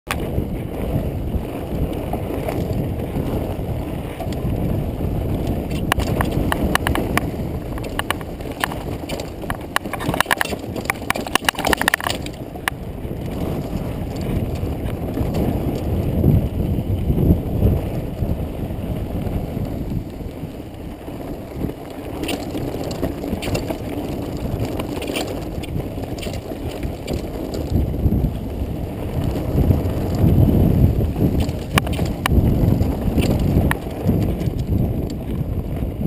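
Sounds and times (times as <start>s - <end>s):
wind and tyre rumble: 0.0s - 36.0s
bike rattling clicks: 0.1s - 36.0s.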